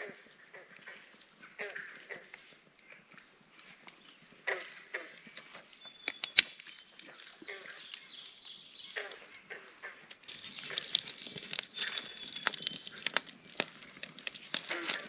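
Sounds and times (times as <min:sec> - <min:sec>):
wood fire crackling and popping: 0:00.3 - 0:15.0.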